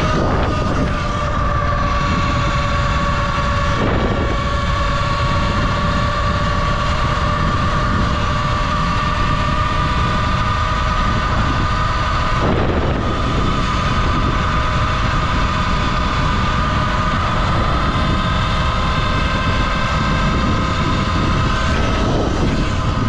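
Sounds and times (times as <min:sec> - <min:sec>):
electric motor whine: 0:00.0 - 0:23.0
wind and road noise: 0:00.0 - 0:23.0.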